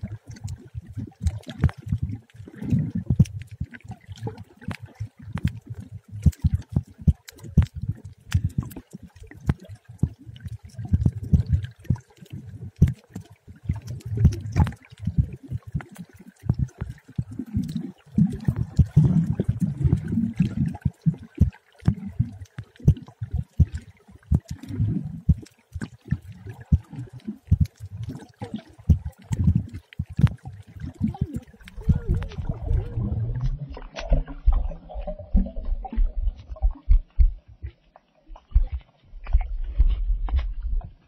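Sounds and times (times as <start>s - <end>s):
underwater sloshing and rumbling: 0.0s - 41.0s.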